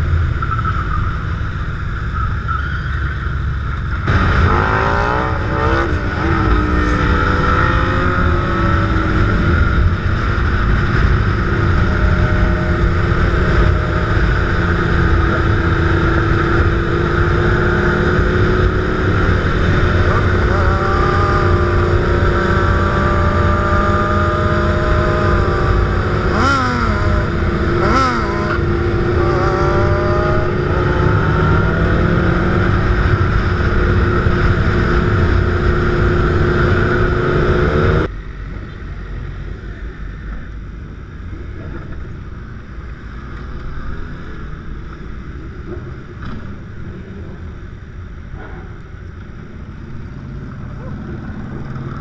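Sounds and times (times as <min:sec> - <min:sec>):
motorcycle engines droning: 0:00.0 - 0:52.0
traffic rumble: 0:00.0 - 0:52.0.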